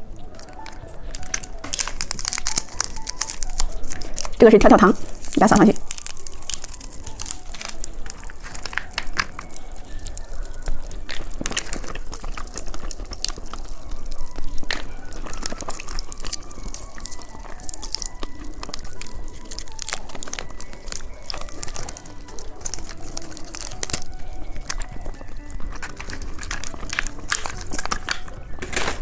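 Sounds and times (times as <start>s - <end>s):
popping candy crackling: 0.0s - 29.0s.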